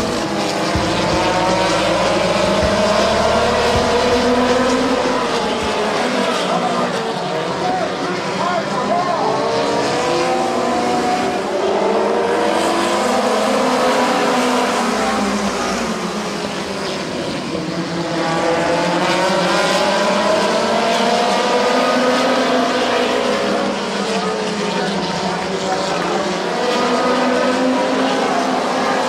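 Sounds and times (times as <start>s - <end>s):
race car engines passing: 0.0s - 29.0s.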